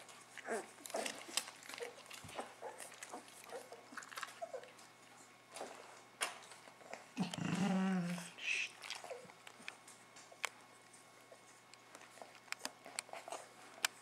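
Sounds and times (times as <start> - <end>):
puppies grumbling and squeaking: 0.0 - 10.4, 11.0 - 14.0.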